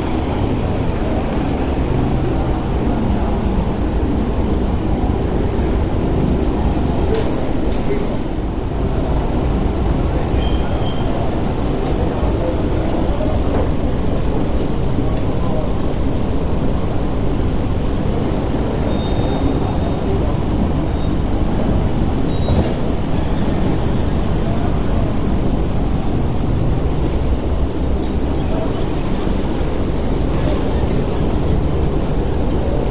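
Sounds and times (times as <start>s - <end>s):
ferry engines rumbling: 0.0s - 32.9s.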